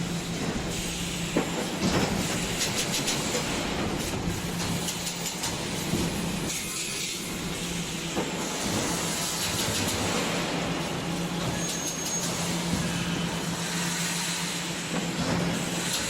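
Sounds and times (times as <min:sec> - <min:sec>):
industrial machinery humming: 0:00.0 - 0:16.0.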